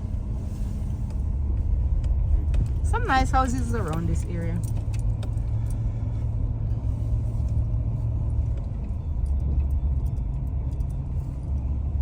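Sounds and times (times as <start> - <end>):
car driving slowly from inside: 0.0 - 12.0.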